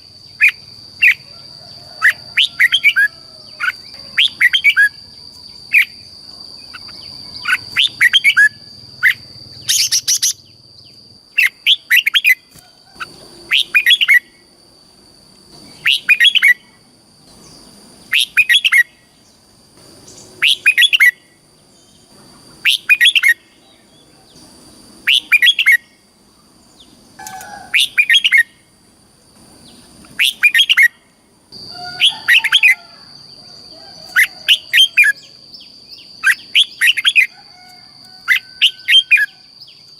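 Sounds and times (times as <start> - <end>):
bird singing fluty song: 0.0 - 14.6, 15.5 - 28.7, 29.6 - 39.9.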